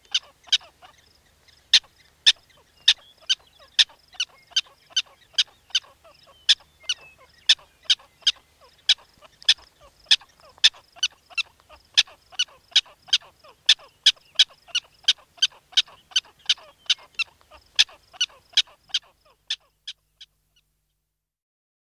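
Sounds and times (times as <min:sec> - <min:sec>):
prairie dog barking chirps: 0:00.0 - 0:20.7.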